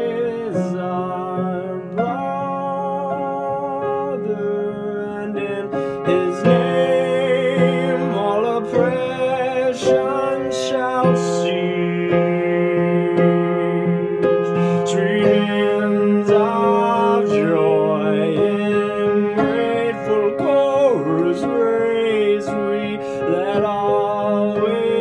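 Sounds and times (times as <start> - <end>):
man singing with vibrato: 0.0 - 25.0
piano accompaniment: 0.0 - 25.0.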